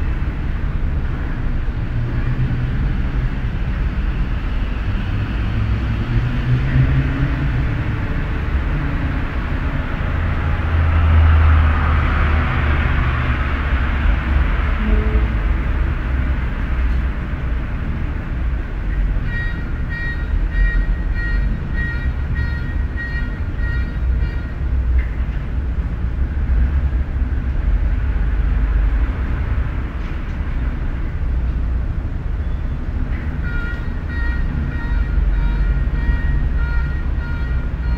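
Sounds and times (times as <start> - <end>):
low rumble of car engines: 0.0 - 37.9.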